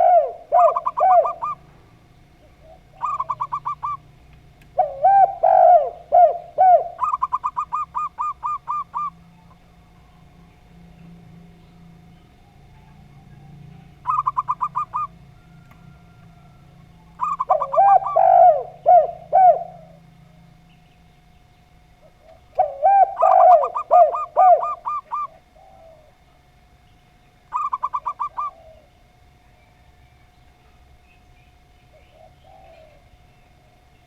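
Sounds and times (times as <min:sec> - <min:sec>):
low swooping dove coos: 0:00.0 - 0:10.4, 0:11.9 - 0:20.4, 0:21.8 - 0:26.8, 0:27.4 - 0:30.0, 0:31.5 - 0:34.0
dove trilling coos: 0:00.0 - 0:34.0
faint steady hum: 0:00.0 - 0:34.0.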